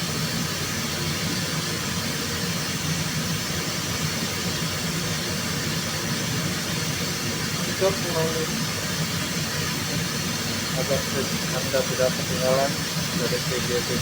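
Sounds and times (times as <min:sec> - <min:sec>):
machine hiss with low hum: 0:00.0 - 0:14.0.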